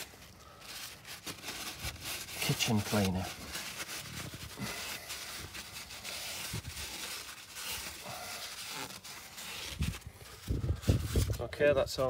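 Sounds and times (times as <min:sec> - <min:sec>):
cloth rag scrubbing metal: 0:00.9 - 0:11.4.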